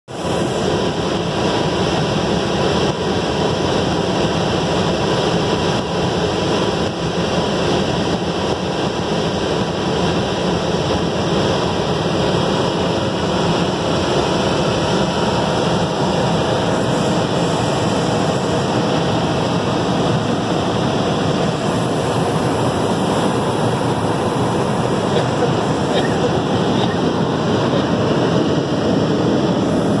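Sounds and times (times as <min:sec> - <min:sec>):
helicopter cabin noise: 0:00.1 - 0:30.0.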